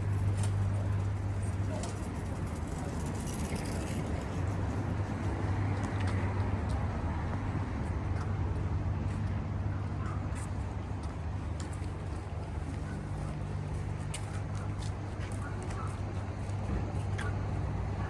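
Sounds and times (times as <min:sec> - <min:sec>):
motor vehicles passing: 0:00.0 - 0:18.0
road noise: 0:00.0 - 0:18.0.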